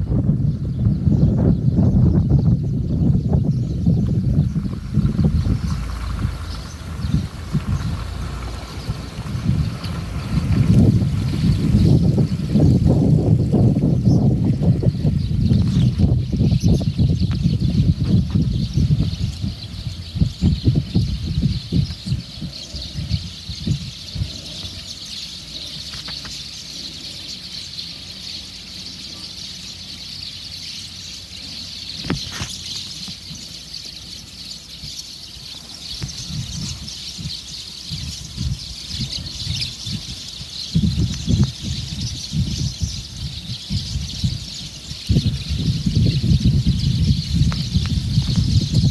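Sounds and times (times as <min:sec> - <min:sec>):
low rumble on microphone: 0:00.0 - 0:25.1, 0:31.6 - 0:48.9
swallows twittering: 0:00.0 - 0:48.9.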